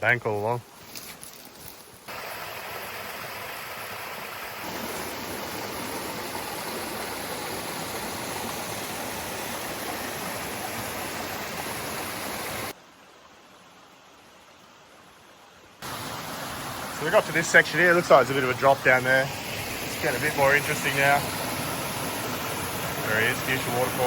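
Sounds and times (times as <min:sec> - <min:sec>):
creek water rushing over cascade: 0:02.0 - 0:24.0.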